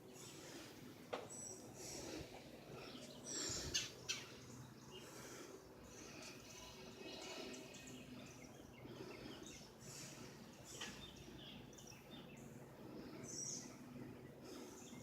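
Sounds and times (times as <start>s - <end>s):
low outdoor background noise: 0.0s - 15.0s.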